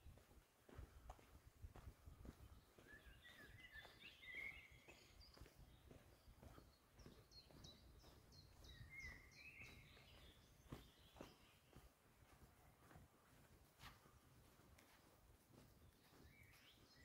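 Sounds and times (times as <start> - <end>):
footsteps on forest path: 0.0 - 17.0.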